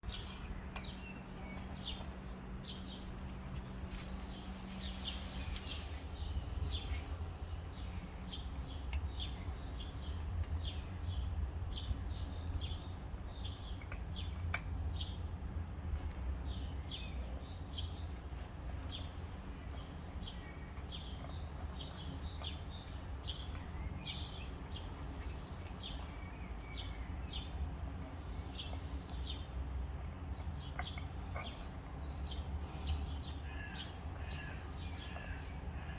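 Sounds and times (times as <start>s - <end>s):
small birds chirping: 0.0s - 35.9s
steady low rumble: 0.0s - 35.9s.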